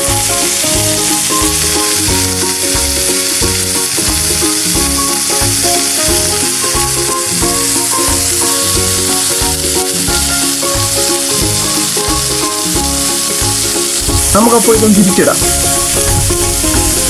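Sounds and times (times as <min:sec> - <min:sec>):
background music with a beat: 0:00.0 - 0:17.0
chicken sizzling in a pan: 0:00.0 - 0:17.0.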